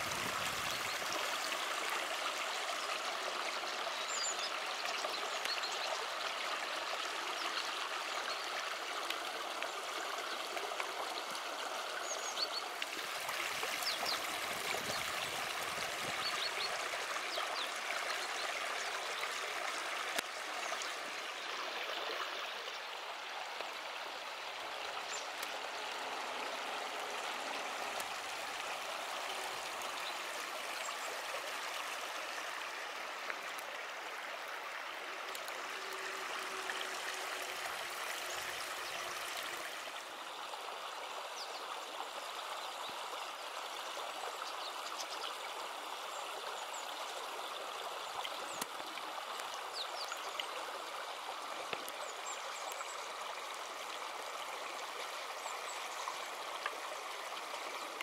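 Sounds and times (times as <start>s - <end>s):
forest brook babbling: 0.0s - 58.0s.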